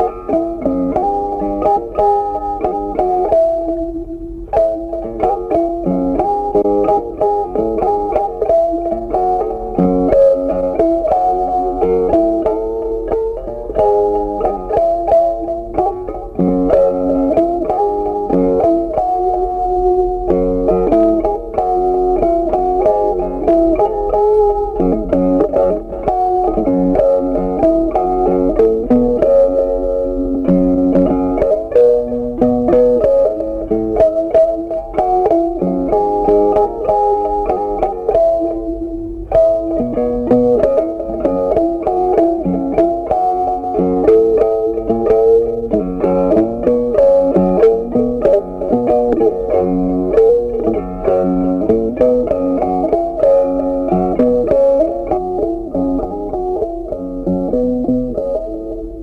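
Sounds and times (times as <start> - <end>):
plucked guitar melody: 0.0 - 59.0.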